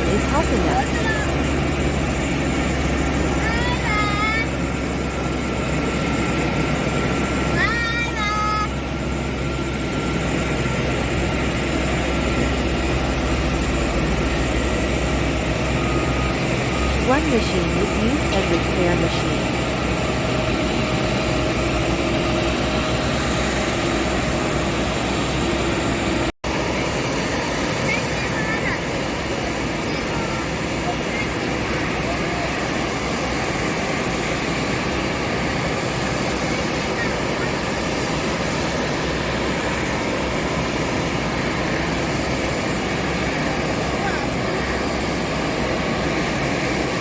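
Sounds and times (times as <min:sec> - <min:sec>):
aircraft engines droning: 0:00.0 - 0:47.0.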